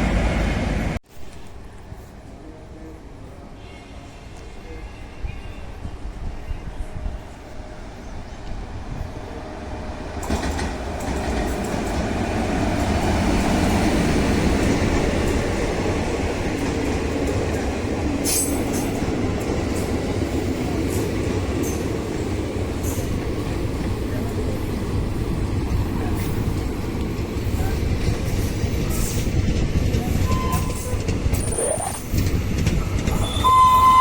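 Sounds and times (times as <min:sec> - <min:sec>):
train wheels rushing on rail: 0:04.2 - 0:34.0.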